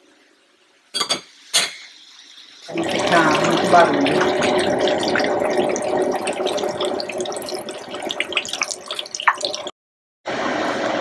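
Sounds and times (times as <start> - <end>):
food deep-frying in hot oil: 0.0 - 9.7.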